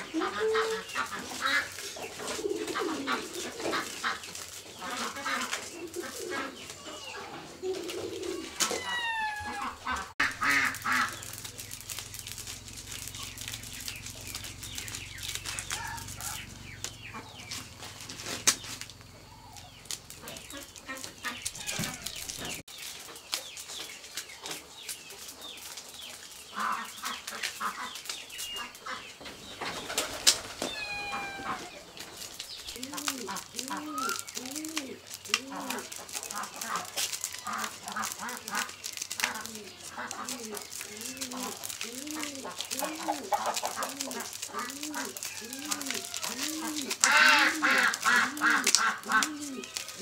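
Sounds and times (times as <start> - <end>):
chicken calling: 0.0 - 22.6, 26.5 - 50.0
corn kernels pattering into basket: 0.0 - 50.0.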